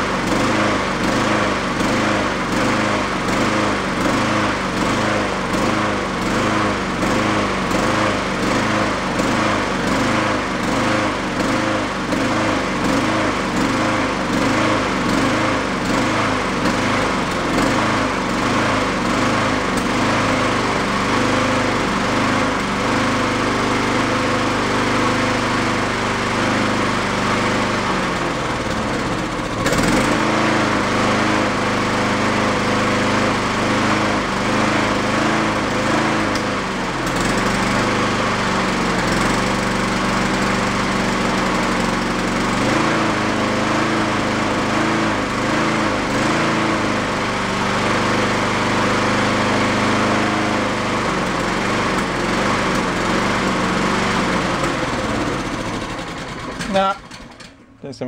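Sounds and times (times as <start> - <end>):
lawn mower engine hunting: 0.0 - 58.0.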